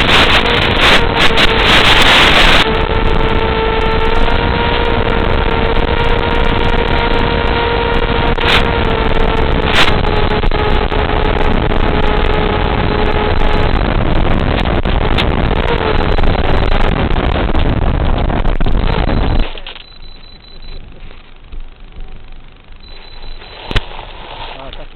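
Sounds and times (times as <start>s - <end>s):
light aircraft in-flight rush: 0.0s - 24.9s
steady whine: 0.0s - 24.9s.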